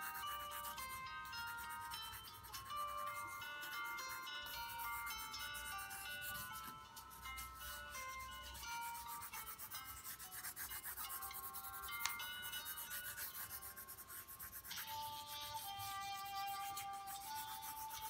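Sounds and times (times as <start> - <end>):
pencil scratching on paper: 0.0 - 18.0
soft background music: 0.0 - 18.0.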